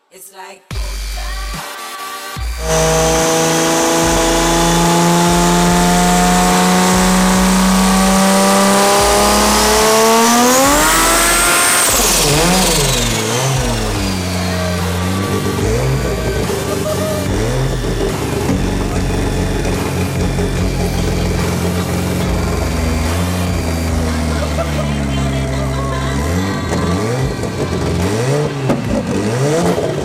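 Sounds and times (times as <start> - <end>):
drag racing engine revving: 2.4 - 30.0.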